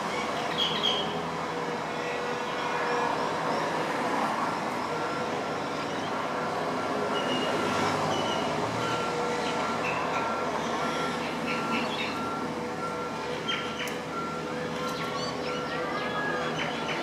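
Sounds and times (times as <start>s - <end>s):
vehicles passing by: 0.0s - 17.0s.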